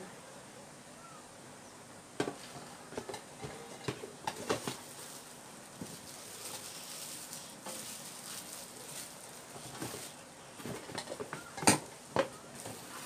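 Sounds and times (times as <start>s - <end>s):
plastic parts handling noise: 2.2s - 13.0s.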